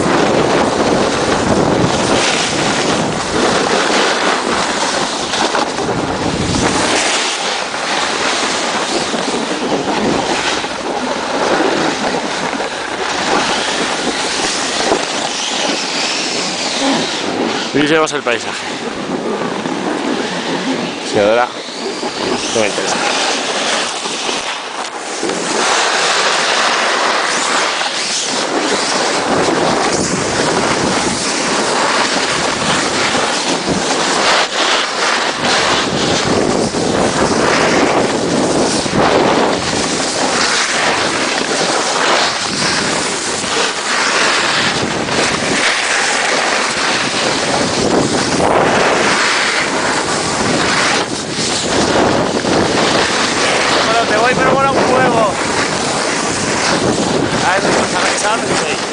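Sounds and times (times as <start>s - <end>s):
snowboard scraping over snow: 0.0s - 58.9s
wind buffeting microphone: 0.0s - 58.9s.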